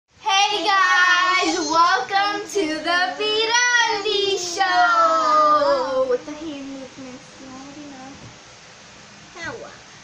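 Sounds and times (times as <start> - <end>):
child singing: 0.2 - 8.2.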